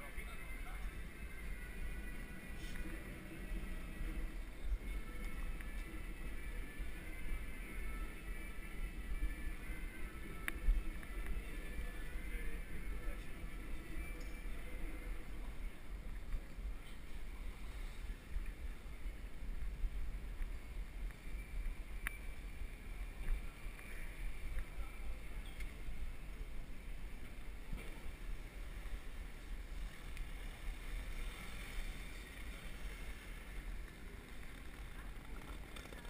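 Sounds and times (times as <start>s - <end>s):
bike rattling over cobblestones: 0.0s - 36.0s.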